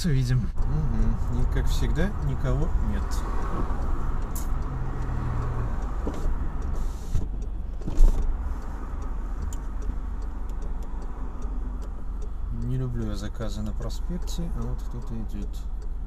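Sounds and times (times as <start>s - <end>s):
car engine rumble inside cabin: 0.0s - 16.0s
street traffic: 0.0s - 16.0s.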